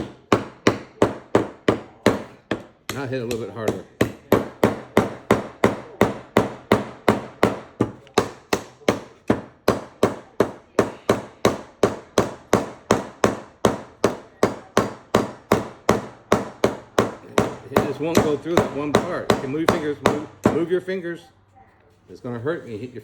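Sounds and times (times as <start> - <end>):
hammer striking a nail: 0.0 - 20.7.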